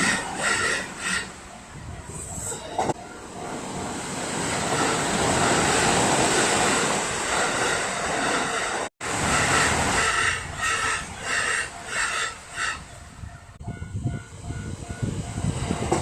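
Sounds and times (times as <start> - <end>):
level-crossing warning bell ringing: 0.0 - 8.7, 9.3 - 16.0
train rushing past: 0.0 - 16.0.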